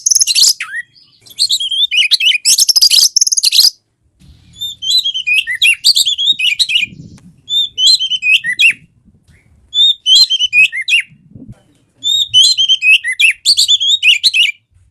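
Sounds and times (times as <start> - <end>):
bird singing whistled phrases: 0.0 - 3.8, 4.5 - 11.1, 12.0 - 14.6.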